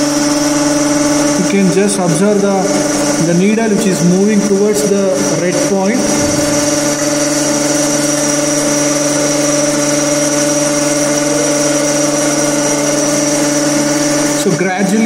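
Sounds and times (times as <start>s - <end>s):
machine motor humming: 0.0s - 15.0s.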